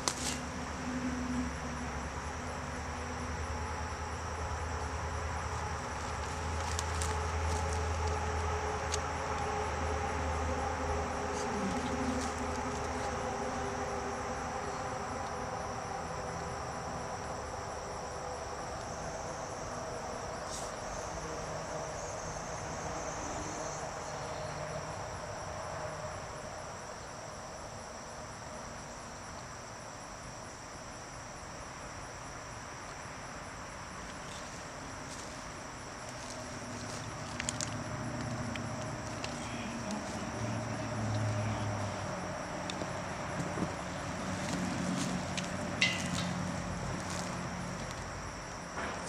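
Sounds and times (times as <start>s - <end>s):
crickets chirping: 0.0s - 49.0s
faint steady hum: 0.0s - 49.0s.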